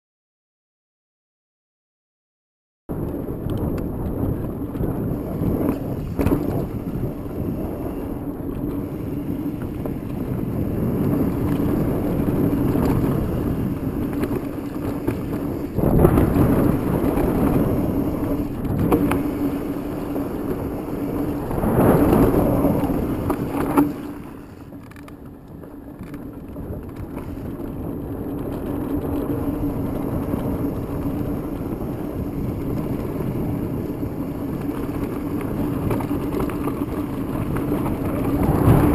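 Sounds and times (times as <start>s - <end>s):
wind rush: 2.9s - 24.8s, 26.8s - 38.9s
bike rattling: 2.9s - 38.9s
tyres on dirt trail: 2.9s - 38.9s.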